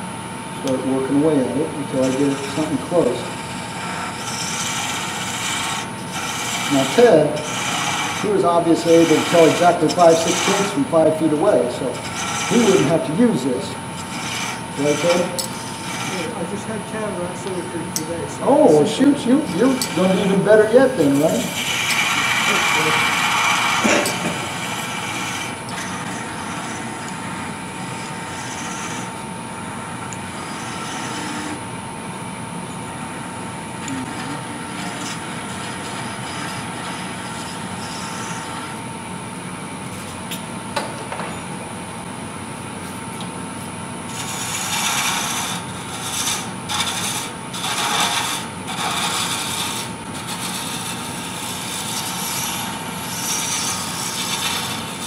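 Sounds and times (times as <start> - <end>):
wood lathe whining: 0.6 - 38.9, 44.0 - 55.0
turning tool scraping wood: 0.7 - 31.6, 33.0 - 38.8, 44.1 - 55.0.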